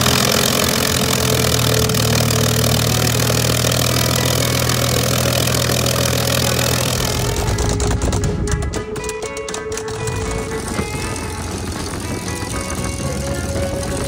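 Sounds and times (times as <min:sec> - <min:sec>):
propeller plane engine idling: 0:00.0 - 0:14.0.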